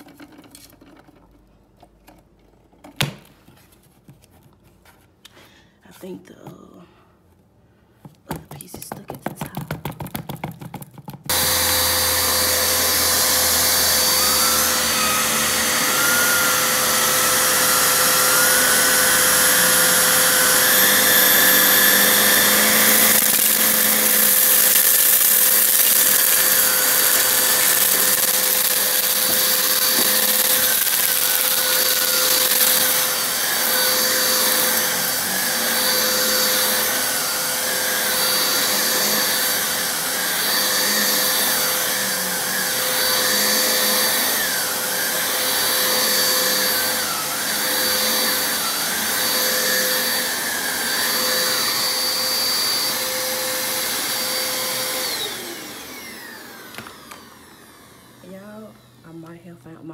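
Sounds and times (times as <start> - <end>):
vacuum cleaner motor hum: 11.3 - 59.4.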